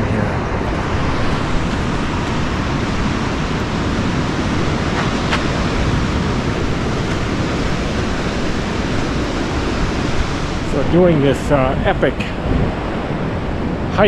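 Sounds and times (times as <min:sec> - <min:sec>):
wind rumbling on microphone: 0:00.0 - 0:14.0
surf breaking on rocks: 0:00.6 - 0:14.0.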